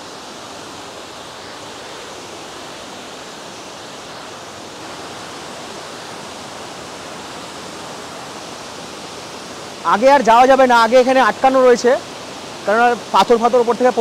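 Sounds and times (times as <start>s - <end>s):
waterfall cascading over rocks: 0.0s - 14.0s.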